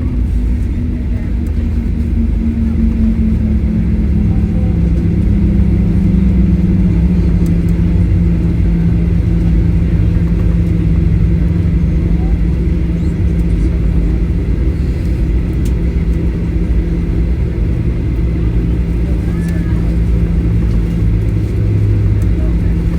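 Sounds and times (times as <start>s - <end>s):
engine hum falling in pitch: 0.0s - 22.9s
engines and wheels rumbling: 0.0s - 22.9s.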